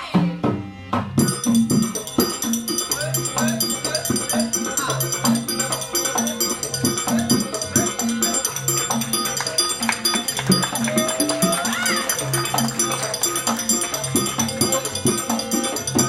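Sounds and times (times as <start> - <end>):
drums and percussion rhythm: 0.0 - 16.0
high ringing: 1.2 - 16.0.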